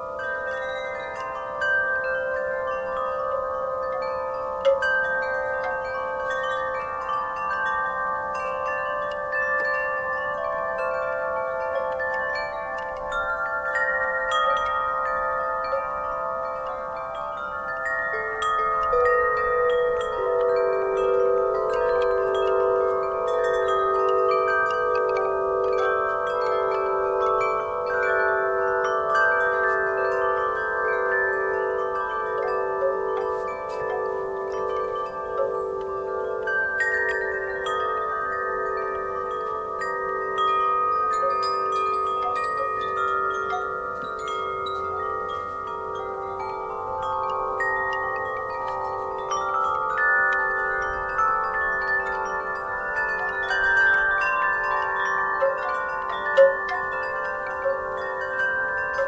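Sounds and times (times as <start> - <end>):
wind chimes ringing: 0.0 - 59.0.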